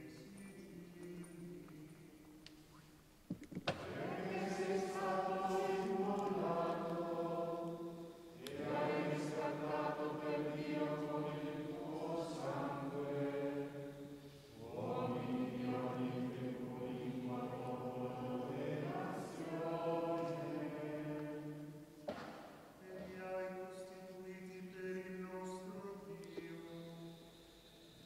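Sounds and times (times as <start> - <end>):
voices chanting a hymn: 3.7 - 28.0.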